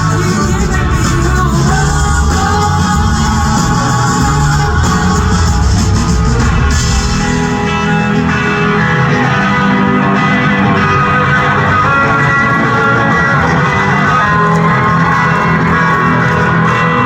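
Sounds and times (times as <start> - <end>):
electric guitar lines: 0.0 - 17.0
live rock band playing: 0.0 - 17.0.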